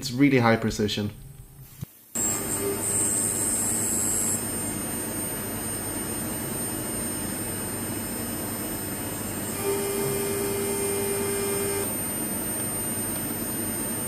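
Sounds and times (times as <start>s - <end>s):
milling machine hiss and whine: 2.2s - 14.0s.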